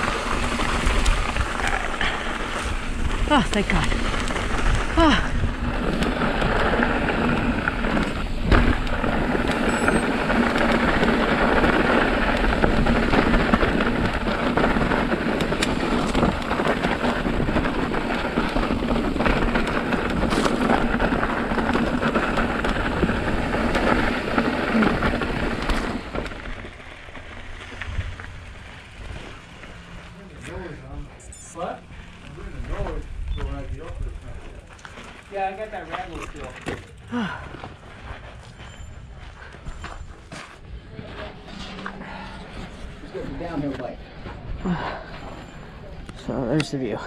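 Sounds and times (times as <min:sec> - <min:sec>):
bike clattering over rough ground: 0:00.0 - 0:47.0
tyre and wind noise: 0:00.0 - 0:47.0.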